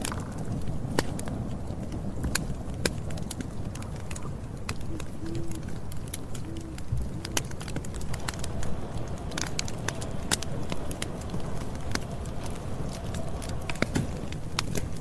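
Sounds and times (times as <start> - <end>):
campfire crackling and popping: 0.0 - 15.0
low rumble of fire: 0.0 - 15.0.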